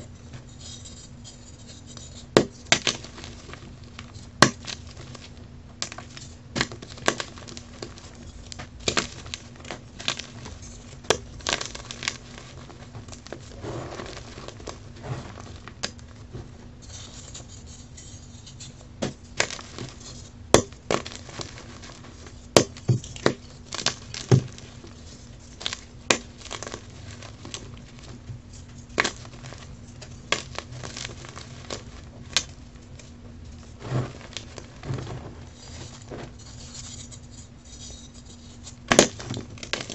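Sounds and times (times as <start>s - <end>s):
chalk blocks crunching by hand: 0.4s - 39.9s
gritty crumbling: 1.8s - 39.9s.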